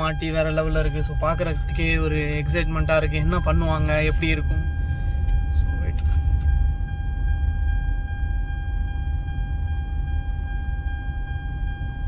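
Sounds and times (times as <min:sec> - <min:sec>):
engine and road rumble: 0:00.0 - 0:12.0
seat belt warning chime: 0:00.0 - 0:12.0.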